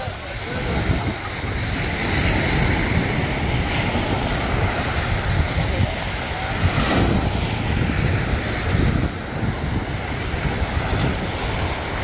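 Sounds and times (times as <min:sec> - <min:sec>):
small waves washing onto beach: 0:00.0 - 0:12.0
wind buffeting microphone: 0:00.0 - 0:12.0.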